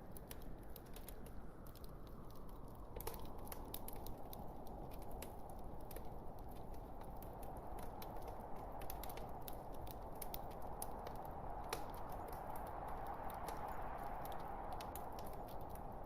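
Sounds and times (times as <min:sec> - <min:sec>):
logs burning in fireplace: 0:00.0 - 0:16.0.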